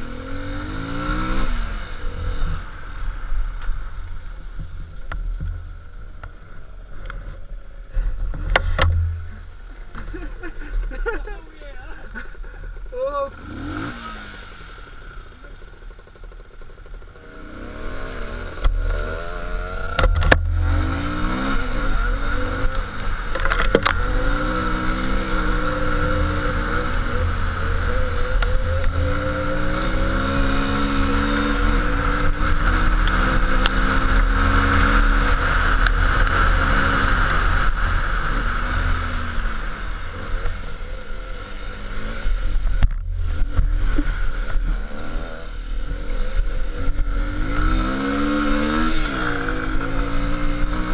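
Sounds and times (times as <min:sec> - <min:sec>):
vehicle engine rumbling under load: 0:00.0 - 0:50.9.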